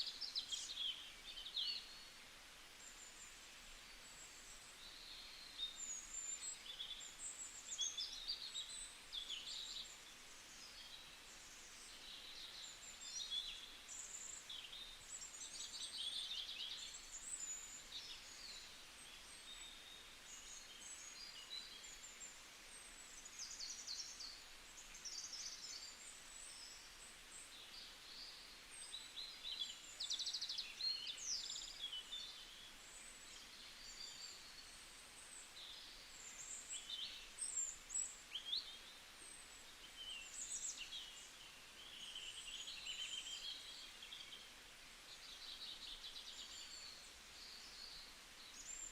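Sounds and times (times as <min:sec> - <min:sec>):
faint steady background hiss: 0:00.0 - 0:48.9
small birds singing and chirping: 0:00.0 - 0:48.9.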